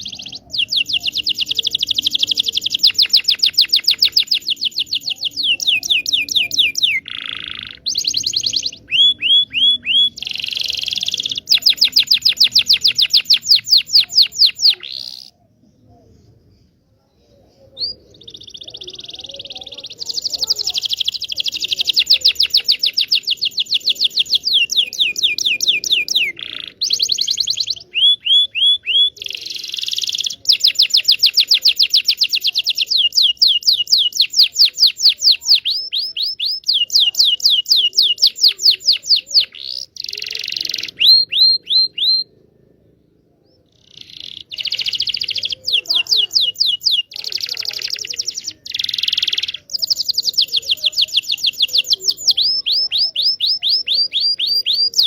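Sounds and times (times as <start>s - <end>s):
canary trilling song: 0.0s - 15.6s, 16.2s - 55.0s.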